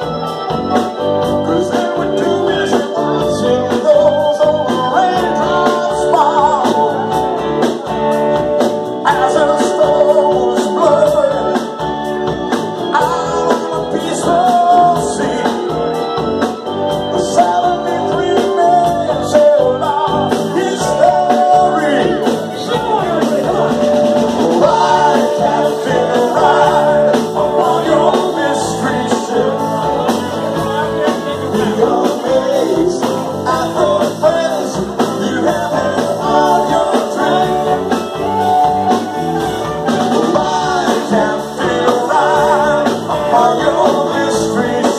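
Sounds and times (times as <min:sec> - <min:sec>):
live rock band playing: 0:00.0 - 0:44.9
man singing into microphone: 0:01.3 - 0:07.4, 0:09.0 - 0:11.8, 0:12.9 - 0:16.2, 0:17.1 - 0:38.1, 0:40.1 - 0:44.9.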